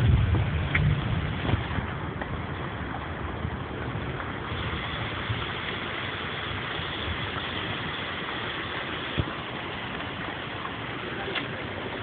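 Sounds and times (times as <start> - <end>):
heavy rain splashing on mud: 0.0 - 12.0.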